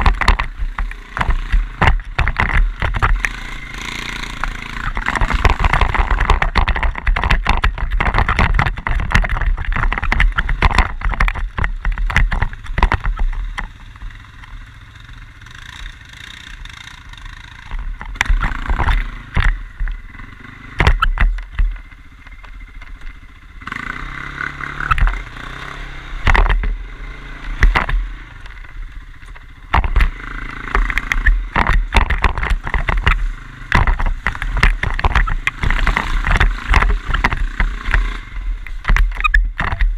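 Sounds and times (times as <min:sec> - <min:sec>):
sharp knocks and rattles: 0:00.0 - 0:14.5, 0:15.5 - 0:39.9
quad bike engine running: 0:00.0 - 0:39.9.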